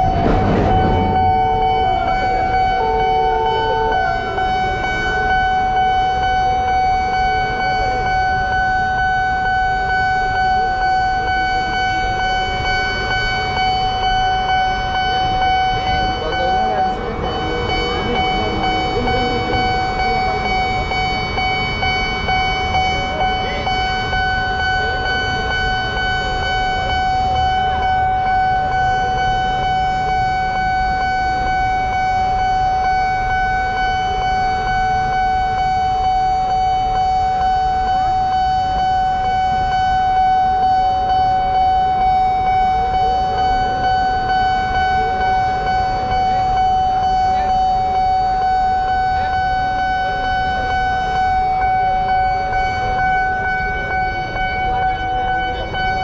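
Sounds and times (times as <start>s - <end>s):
level crossing alarm steady tone: 0.0s - 56.0s
low rumble of traffic: 0.0s - 56.0s
lower tone beeping: 0.0s - 56.0s.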